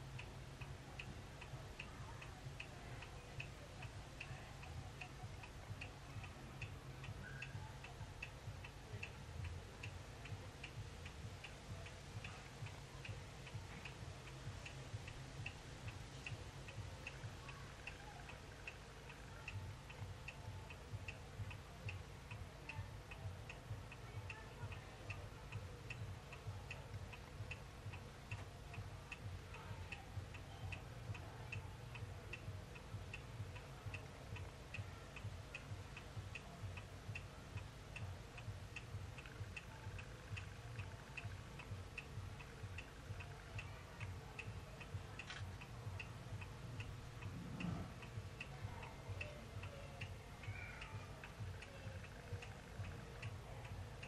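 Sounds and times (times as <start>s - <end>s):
faint hum: 0.0s - 54.0s
steady ticking: 0.0s - 54.0s.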